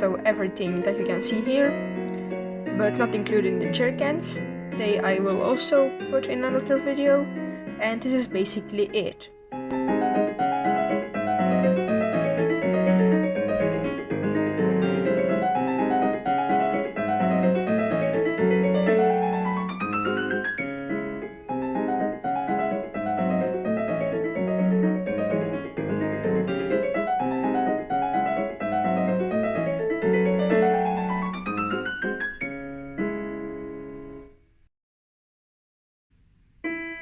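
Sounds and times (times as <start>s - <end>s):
piano music: 0.0s - 34.5s, 36.6s - 37.0s.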